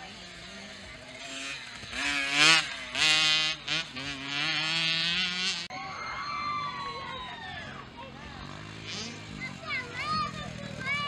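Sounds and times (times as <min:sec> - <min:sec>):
motocross bike engine revving: 0:00.0 - 0:05.7, 0:07.8 - 0:11.0.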